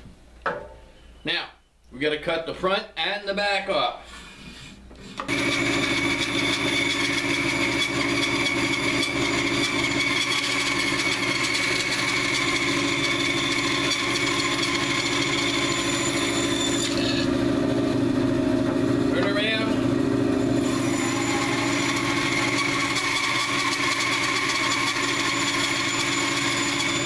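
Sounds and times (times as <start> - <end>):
band saw cutting log: 5.2 - 27.0.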